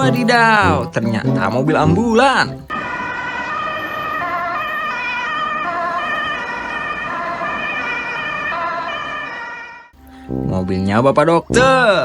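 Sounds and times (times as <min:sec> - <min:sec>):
ambulance siren wailing: 0:00.0 - 0:09.9.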